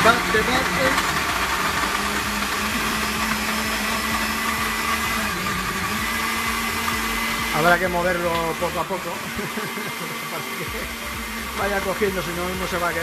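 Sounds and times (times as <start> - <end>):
electric blender running: 0.0 - 13.0.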